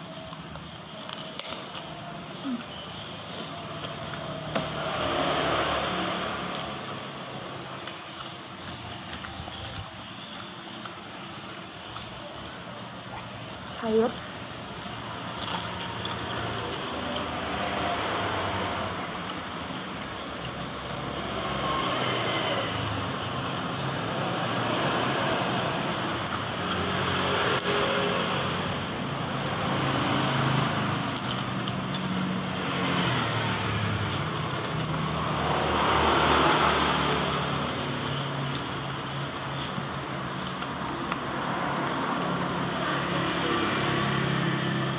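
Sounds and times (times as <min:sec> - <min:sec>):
road traffic passing: 0:00.0 - 0:44.9.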